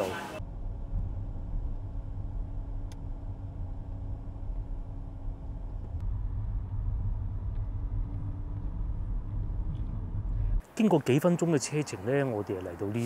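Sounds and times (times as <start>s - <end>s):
car road and engine rumble: 0.0s - 10.7s
faint constant hum: 0.0s - 13.0s.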